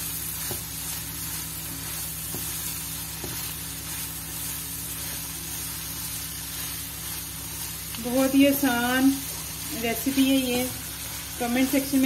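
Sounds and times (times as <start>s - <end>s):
spatula stirring in wok: 0.0s - 12.0s
vegetables sizzling in oil: 0.0s - 12.0s.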